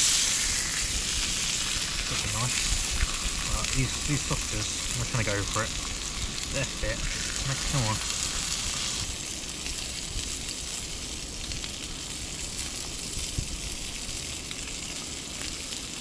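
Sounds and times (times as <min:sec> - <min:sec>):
food sizzling in a hot pan: 0:00.0 - 0:15.0.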